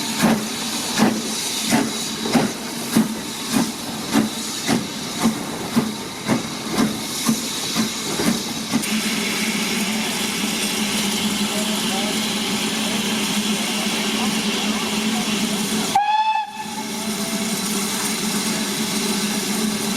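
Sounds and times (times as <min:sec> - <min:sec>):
steam hissing: 0:00.0 - 0:19.9
steam locomotive chuffing: 0:00.0 - 0:19.9.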